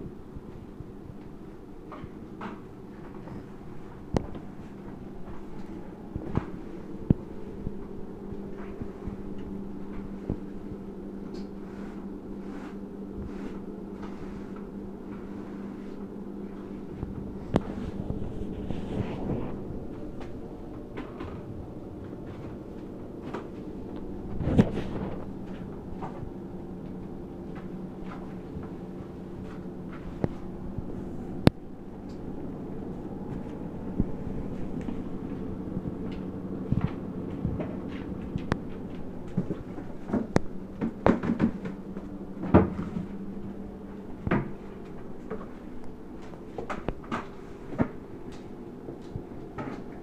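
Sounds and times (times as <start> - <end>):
steady low hum: 0.0 - 50.0
person walking on tile floor: 0.3 - 31.7, 32.7 - 50.0.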